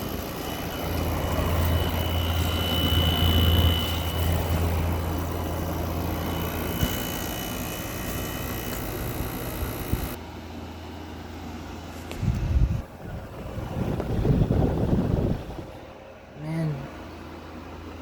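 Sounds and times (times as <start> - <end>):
low vibrating hum: 0.0 - 18.0
window air conditioner running: 0.0 - 18.0.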